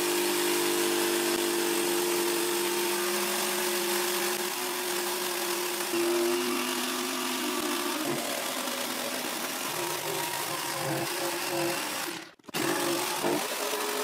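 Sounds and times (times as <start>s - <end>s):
jigsaw cutting plywood: 0.0s - 14.0s.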